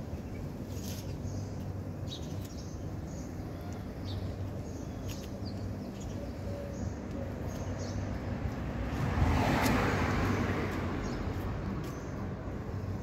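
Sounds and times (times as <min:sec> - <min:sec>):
small birds chirping: 0:00.0 - 0:08.7, 0:10.3 - 0:13.0.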